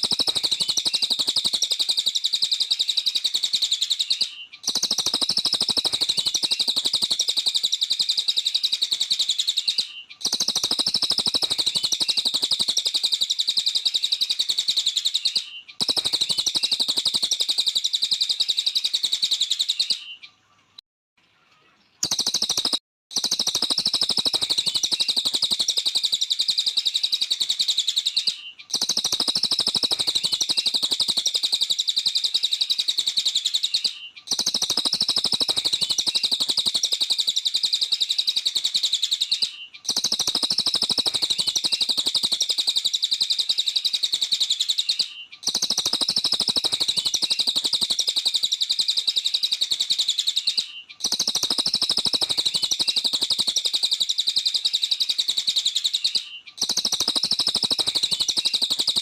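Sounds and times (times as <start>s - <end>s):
bird chattering trill: 0.0s - 20.2s, 22.0s - 59.0s.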